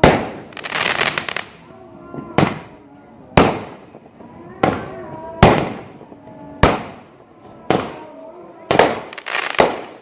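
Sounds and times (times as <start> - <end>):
fireworks exploding: 0.0 - 10.0.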